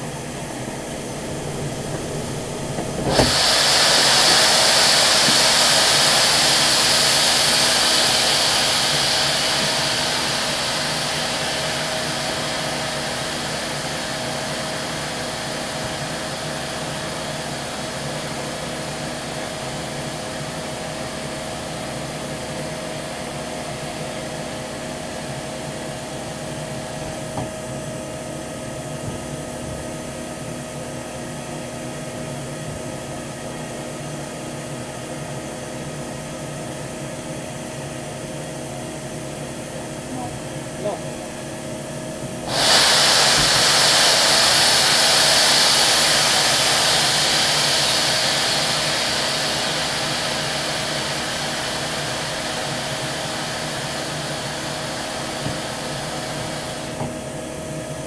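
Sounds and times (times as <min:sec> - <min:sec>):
steam locomotive hissing: 0:00.0 - 0:37.0, 0:39.9 - 0:58.0.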